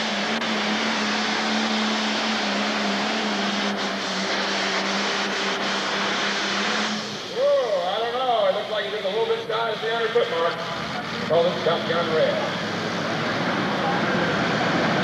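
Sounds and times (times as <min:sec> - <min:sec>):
dense rush of noise: 0:00.0 - 0:15.0
diesel engine under full load: 0:00.0 - 0:15.0.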